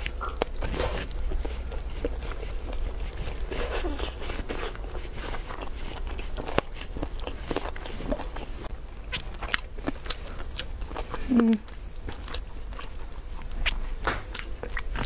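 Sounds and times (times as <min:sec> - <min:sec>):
low steady hum: 0:00.0 - 0:15.0
person chewing and sucking food: 0:00.0 - 0:15.0.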